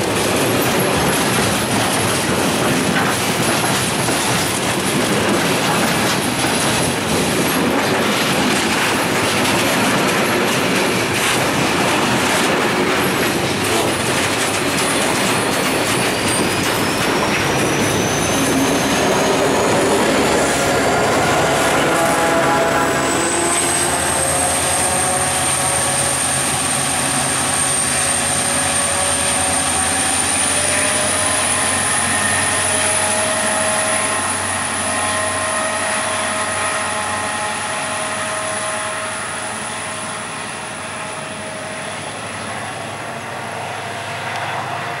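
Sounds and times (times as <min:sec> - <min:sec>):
diesel locomotive engines droning: 0:00.0 - 0:45.0.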